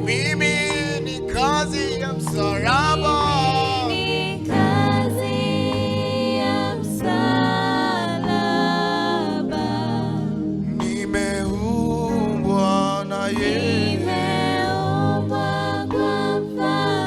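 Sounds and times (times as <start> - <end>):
group singing in harmony: 0.0 - 17.0
sustained keyboard chords: 0.0 - 17.0.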